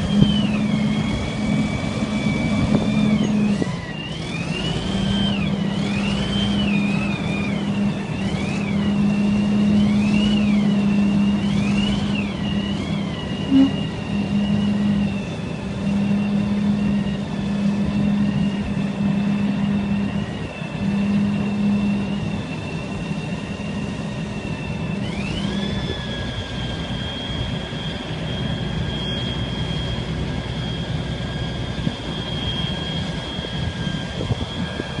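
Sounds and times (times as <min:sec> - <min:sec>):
diesel engine running under load: 0:00.0 - 0:35.0
high hydraulic whine: 0:00.0 - 0:35.0.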